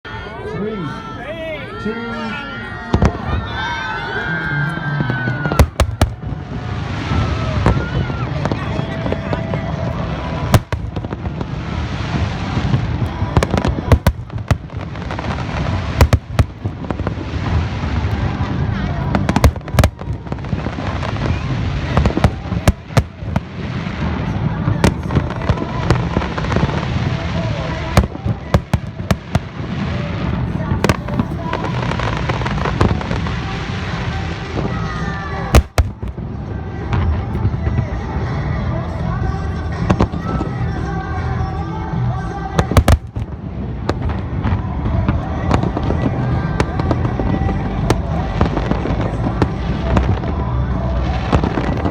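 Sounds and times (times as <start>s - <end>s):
continuous low rumble: 0.0s - 51.9s
fireworks bursting with sharp bangs: 4.8s - 37.8s, 42.5s - 51.9s.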